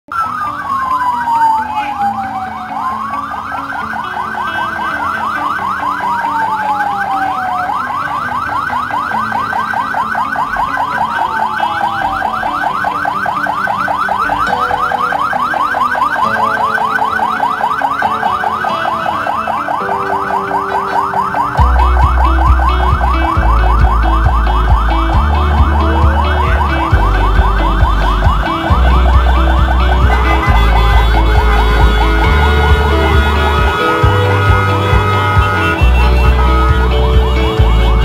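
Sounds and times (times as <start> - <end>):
siren wail: 0.1 - 38.0
siren yelp: 0.1 - 38.0.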